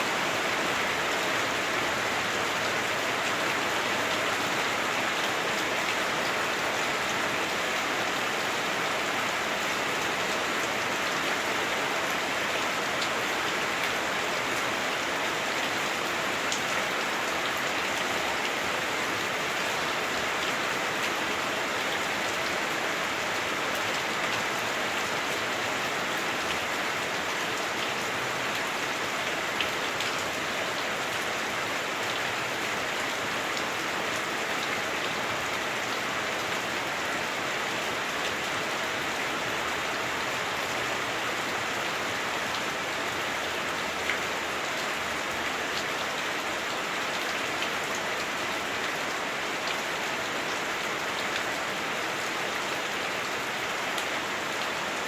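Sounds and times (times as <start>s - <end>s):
heavy rain drumming on a roof: 0.0s - 55.0s.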